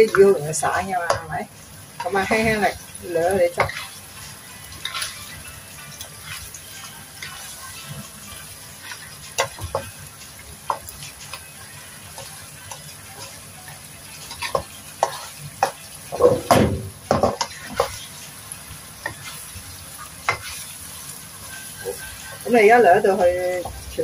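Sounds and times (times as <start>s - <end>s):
sauce sizzling: 0.0s - 24.0s
spatula scraping a wok: 2.0s - 13.4s, 14.2s - 24.0s.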